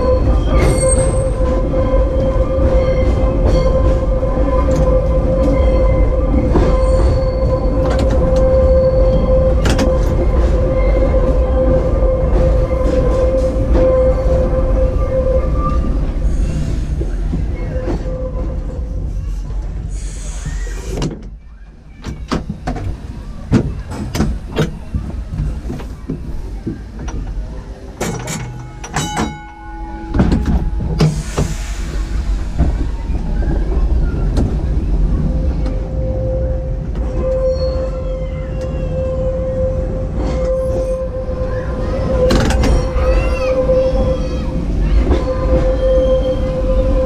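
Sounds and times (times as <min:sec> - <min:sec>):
tram clicks and knocks: 0:00.0 - 0:47.0
tram motor hum: 0:00.0 - 0:47.0.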